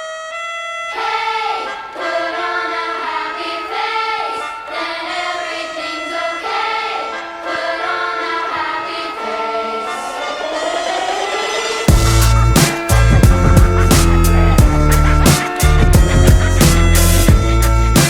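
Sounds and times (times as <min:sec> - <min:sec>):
person singing: 0:00.9 - 0:18.0
pop song: 0:01.0 - 0:18.0.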